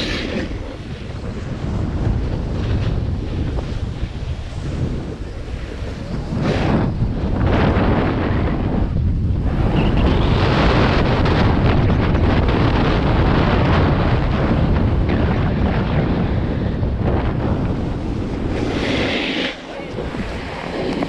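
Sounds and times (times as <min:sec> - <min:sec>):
snowboard scraping over snow: 0:00.0 - 0:21.0
wind buffeting the microphone: 0:00.0 - 0:21.0.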